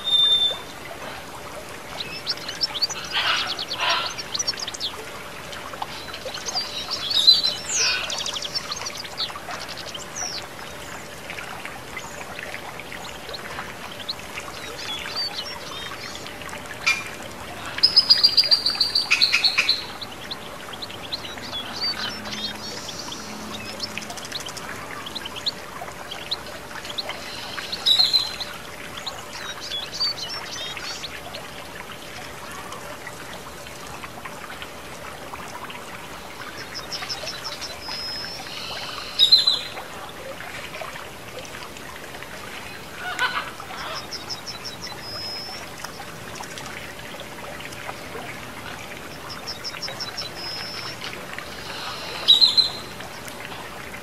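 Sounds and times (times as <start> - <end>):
small birds chirping trills: 0.0 - 31.5, 36.2 - 39.8, 42.7 - 46.6, 47.2 - 53.2
water trickling in fountain: 0.0 - 54.0.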